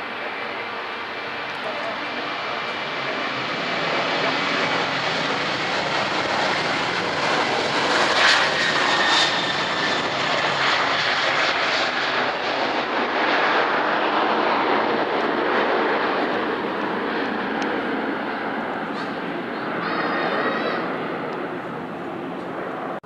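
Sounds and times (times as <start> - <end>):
aircraft engines passing: 0.0 - 23.0.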